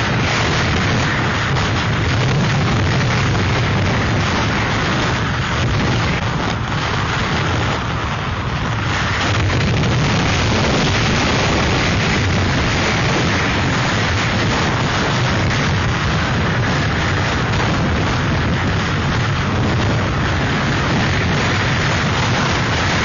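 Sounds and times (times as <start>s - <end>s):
wind buffeting microphone: 0.0s - 23.0s
wind roaring: 0.0s - 23.0s.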